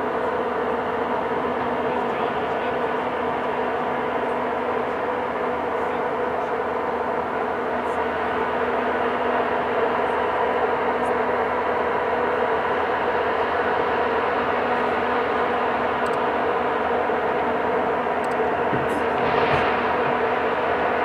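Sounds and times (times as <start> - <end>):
heavy machinery engine drone: 0.0 - 21.0.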